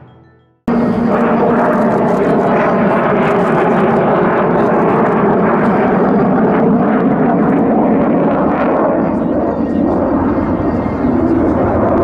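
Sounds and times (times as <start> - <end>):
jet roar overhead: 0.7 - 12.0.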